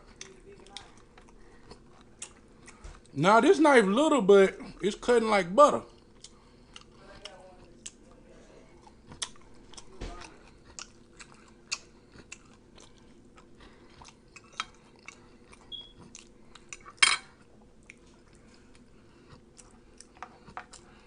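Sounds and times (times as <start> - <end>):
close chewing of steak: 0.0 - 3.2, 5.9 - 8.0, 8.8 - 21.0.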